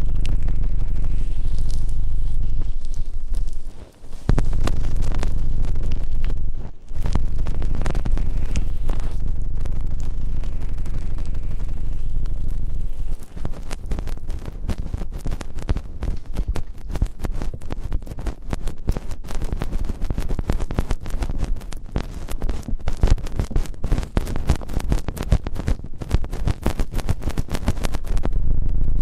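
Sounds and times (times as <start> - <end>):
crackles and scratches at microphone: 0.0 - 29.0.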